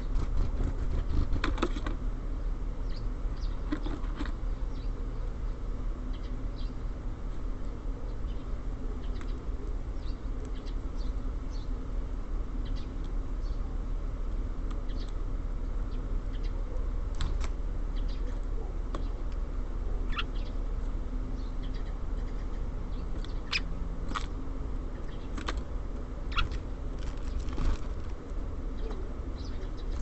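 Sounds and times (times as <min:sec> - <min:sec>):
low background rumble: 0:00.0 - 0:30.0
songbirds chipping: 0:00.0 - 0:30.0.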